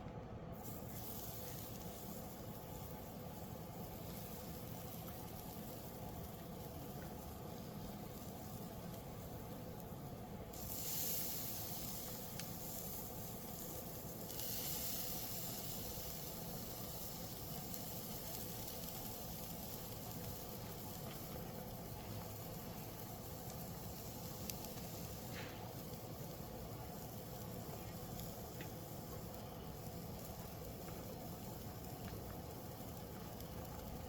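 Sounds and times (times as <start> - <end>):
meat sizzling on a grill: 0.4 - 34.0.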